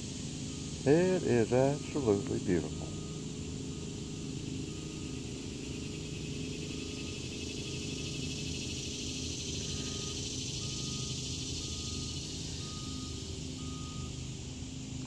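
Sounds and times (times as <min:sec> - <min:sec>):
cicadas buzzing: 0:00.0 - 0:15.0
low steady hum: 0:00.0 - 0:15.0.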